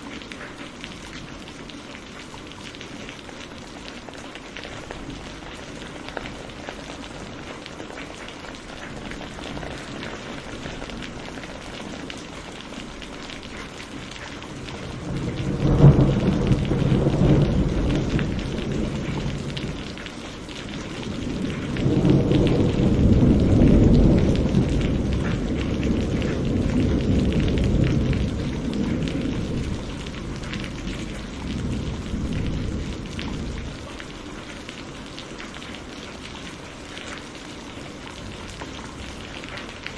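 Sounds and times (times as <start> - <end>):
heavy rain: 0.0 - 39.9
thunder rumbling: 4.7 - 37.2.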